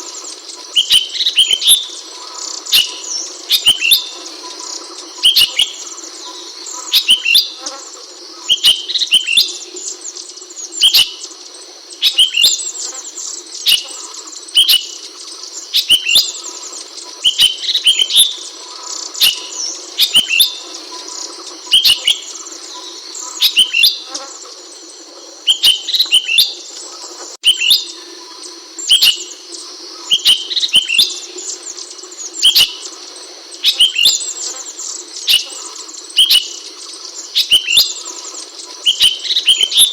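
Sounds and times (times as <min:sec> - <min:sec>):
bird chirping: 0:00.0 - 0:39.9
steady high-pitched hiss: 0:00.0 - 0:39.9.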